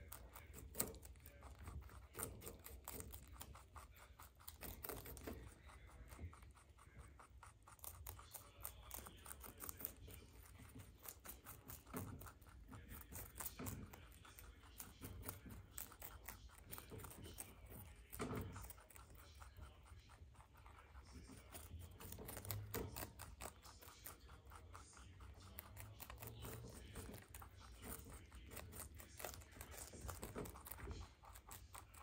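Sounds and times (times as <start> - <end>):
rabbits crunching cabbage leaves: 0.0 - 32.0.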